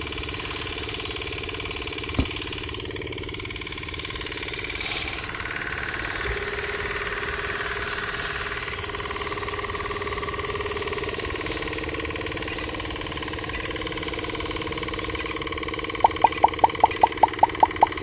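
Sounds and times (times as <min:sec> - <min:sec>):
small grinding mill running: 0:00.0 - 0:18.0.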